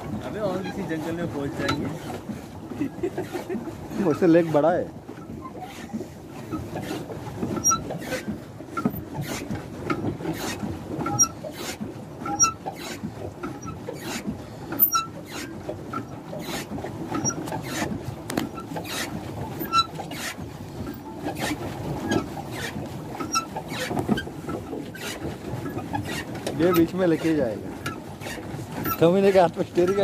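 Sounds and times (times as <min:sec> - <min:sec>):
churned water rushing: 0:00.0 - 0:30.0
pedal drive squeaking and creaking: 0:03.2 - 0:04.6, 0:05.2 - 0:30.0.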